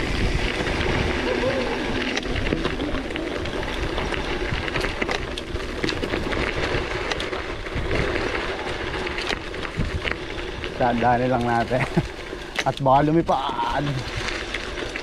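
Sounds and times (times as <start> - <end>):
bike rattling over rocky trail: 0.0 - 15.0.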